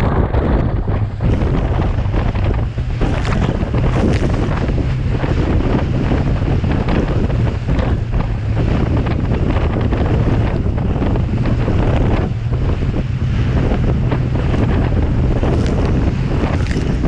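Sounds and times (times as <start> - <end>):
hull knocking and splashing: 0.0 - 17.0
watercraft engine running: 0.0 - 17.0
wind buffeting microphone: 0.0 - 17.0.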